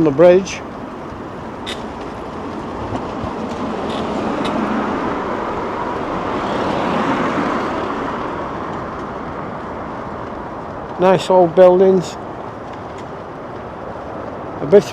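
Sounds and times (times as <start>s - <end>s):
passing vehicle rushing: 0.0s - 12.3s.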